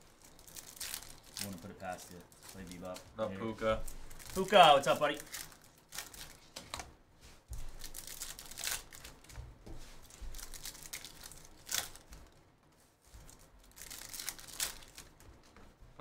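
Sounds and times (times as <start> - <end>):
foil wrappers tearing and crinkling: 0.0 - 6.9, 7.6 - 9.4, 10.0 - 12.4, 13.0 - 15.2.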